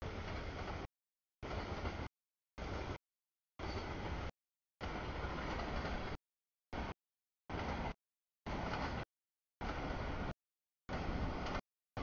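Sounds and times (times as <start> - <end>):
freight train rumbling past: 0.0 - 3.0, 3.6 - 6.2, 6.8 - 11.6.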